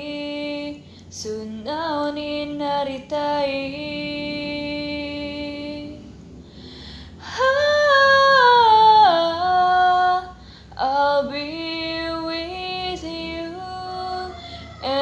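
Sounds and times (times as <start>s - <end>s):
woman singing unaccompanied: 0.0s - 6.2s, 7.1s - 15.0s.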